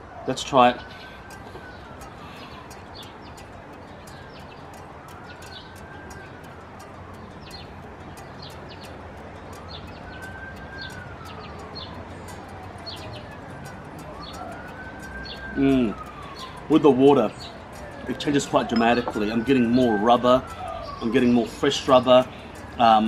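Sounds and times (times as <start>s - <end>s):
faint emergency siren wailing: 0.0s - 23.0s
small birds chirping: 0.3s - 23.0s.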